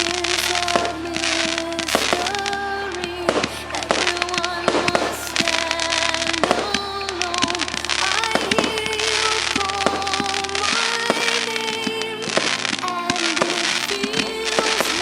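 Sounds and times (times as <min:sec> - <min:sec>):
fireworks bursting and crackling: 0:00.0 - 0:15.0
music with held melody notes: 0:00.0 - 0:15.0.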